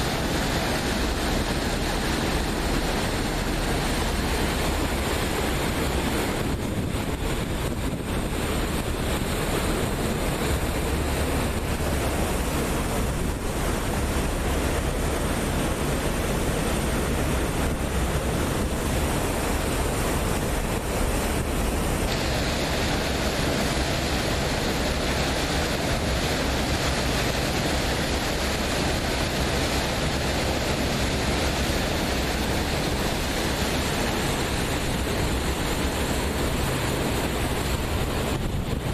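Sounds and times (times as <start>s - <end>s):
water rushing: 0.0s - 38.9s
wind buffeting microphone: 0.0s - 38.9s.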